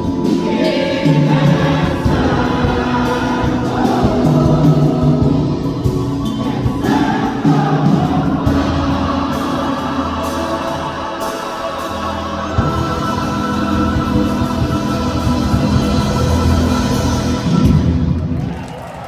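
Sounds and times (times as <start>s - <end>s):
choir singing: 0.0s - 18.4s.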